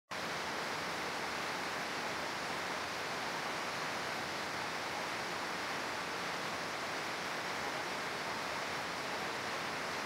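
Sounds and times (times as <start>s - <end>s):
rain falling: 0.1s - 10.0s.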